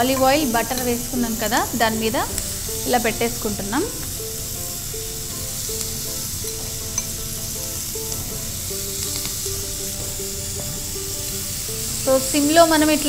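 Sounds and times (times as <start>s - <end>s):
prawns sizzling in a pan: 0.0s - 13.0s.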